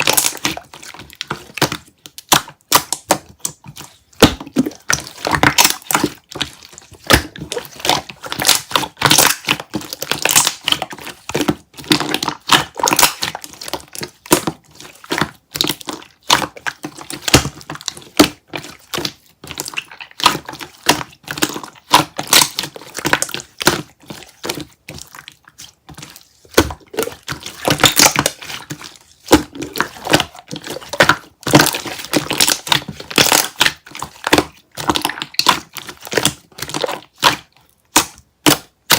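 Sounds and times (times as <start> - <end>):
hands squeezing sticky slime: 0.0 - 38.9.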